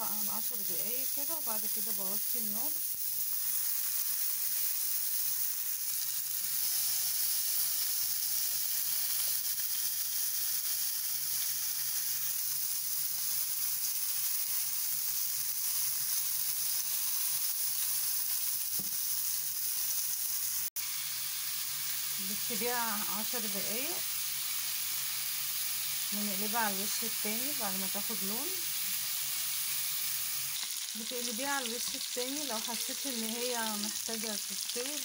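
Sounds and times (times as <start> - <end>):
meat sizzling on grill pan: 0.0 - 35.0.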